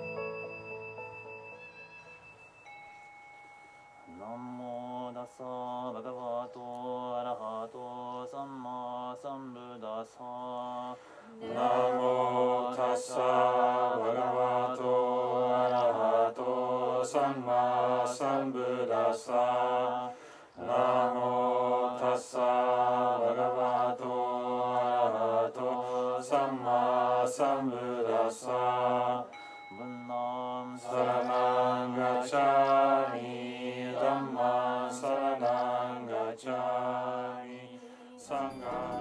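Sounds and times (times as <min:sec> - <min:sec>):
low voices chanting: 0:04.1 - 0:39.0.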